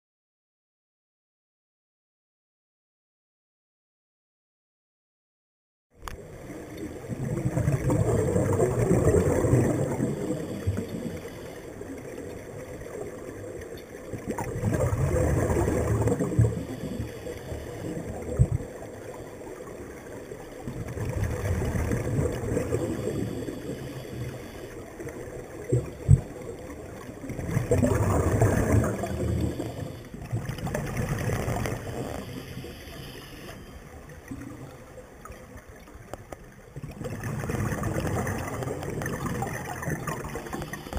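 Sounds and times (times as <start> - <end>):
regulator bubbling underwater: 6.0 - 40.9.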